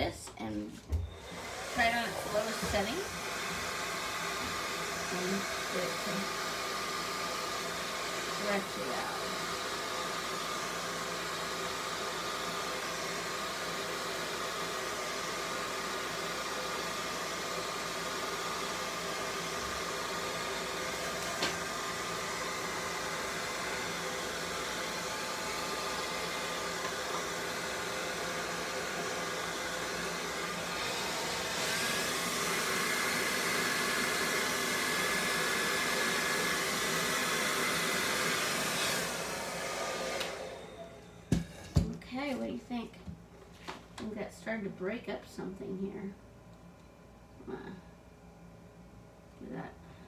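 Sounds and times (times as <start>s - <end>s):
hair dryer blowing: 0.0s - 45.6s.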